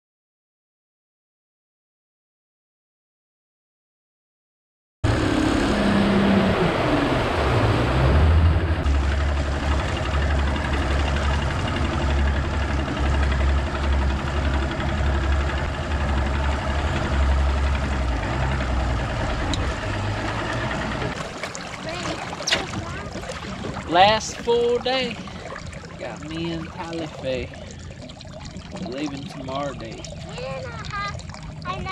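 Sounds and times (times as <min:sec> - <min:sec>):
boat motor rumbling: 0:05.0 - 0:31.9.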